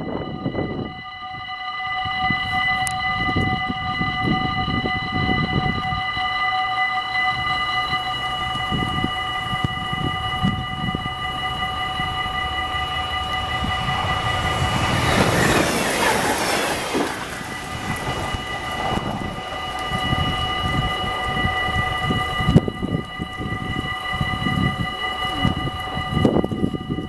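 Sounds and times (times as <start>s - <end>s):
level crossing warning bells: 0.0s - 27.0s
train rushing past on rails: 0.0s - 27.0s.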